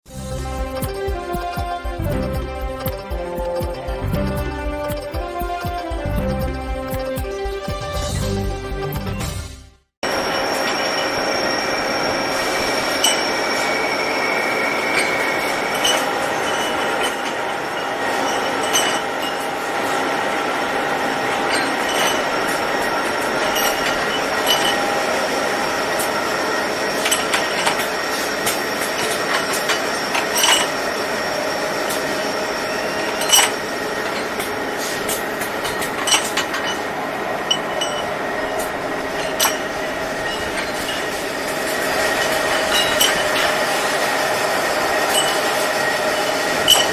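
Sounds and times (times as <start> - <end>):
high steady tones: 0.1 - 9.4, 10.0 - 19.4, 20.8 - 46.9.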